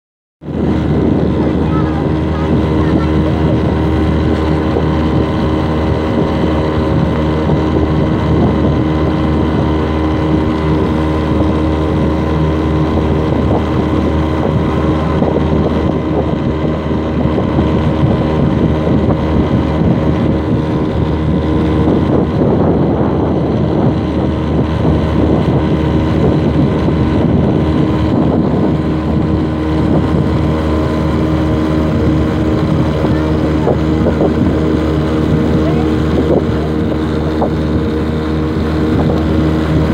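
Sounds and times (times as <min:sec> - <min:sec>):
motorboat engine running: 0:00.4 - 0:39.9.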